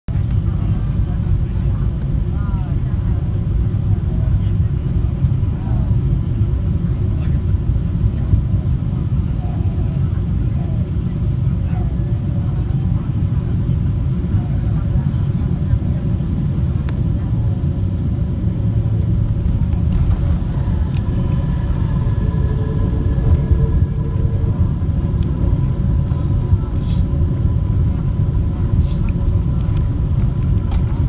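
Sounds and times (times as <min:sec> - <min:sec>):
faint steady whine: 0:00.1 - 0:31.0
jet engine and wheel rumble: 0:00.1 - 0:31.0.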